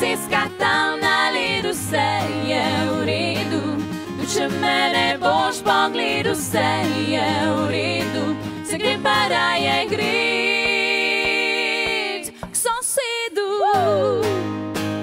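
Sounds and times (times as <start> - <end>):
women singing in harmony: 0.0 - 14.5
acoustic guitar accompaniment: 0.0 - 15.0.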